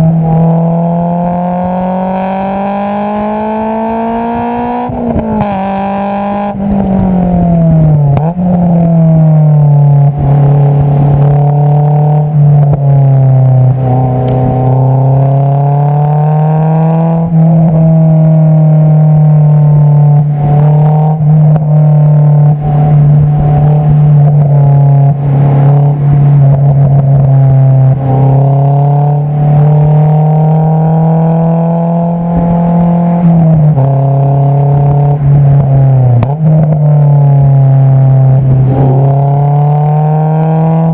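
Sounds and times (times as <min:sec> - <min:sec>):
car engine exhaust revving: 0:00.0 - 0:40.9.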